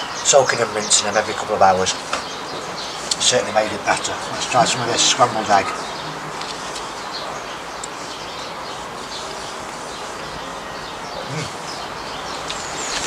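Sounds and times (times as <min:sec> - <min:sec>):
small birds chirping: 0:00.0 - 0:13.0
steady outdoor hiss: 0:00.0 - 0:13.0.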